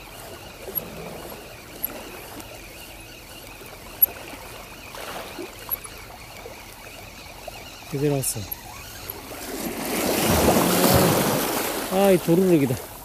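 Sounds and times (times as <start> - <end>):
water lapping against stones: 0.0 - 13.0.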